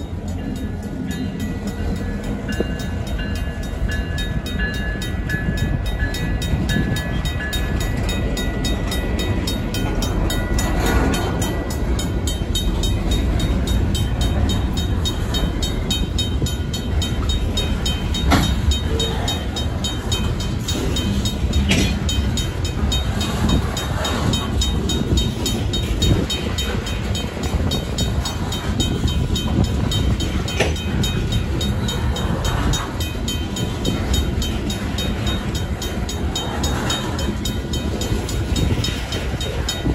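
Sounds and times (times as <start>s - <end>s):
freight train rumbling past: 0.0s - 39.9s
high steady tone: 0.0s - 39.9s
mechanical crossing bell: 0.0s - 39.9s
wheels clanking over rail joints: 0.0s - 39.9s.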